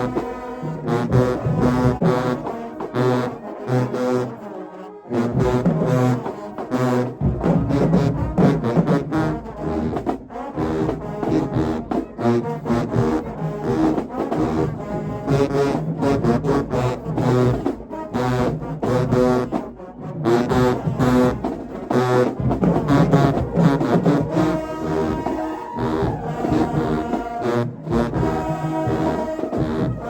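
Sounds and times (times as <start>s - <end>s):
marching band playing brass: 0.0s - 30.0s.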